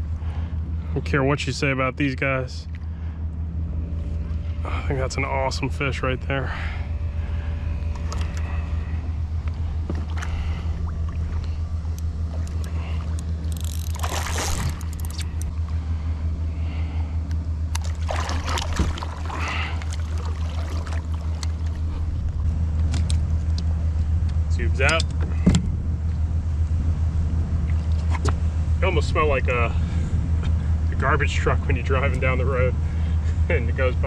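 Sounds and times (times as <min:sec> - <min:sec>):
boat motor humming: 0:00.0 - 0:34.0.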